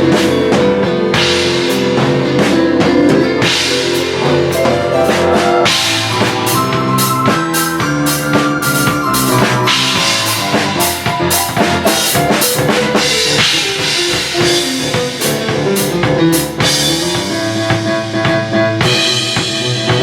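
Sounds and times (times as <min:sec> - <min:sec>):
drum kit groove: 0:00.0 - 0:20.0
piano melody: 0:00.0 - 0:20.0.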